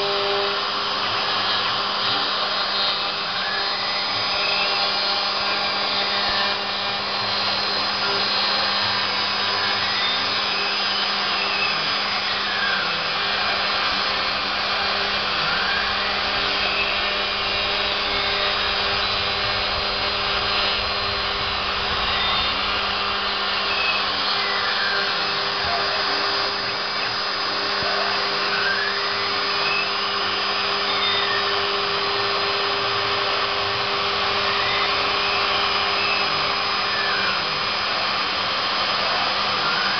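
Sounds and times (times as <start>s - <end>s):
motor whine gliding in pitch: 0.0s - 39.9s
router spindle milling: 0.0s - 39.9s.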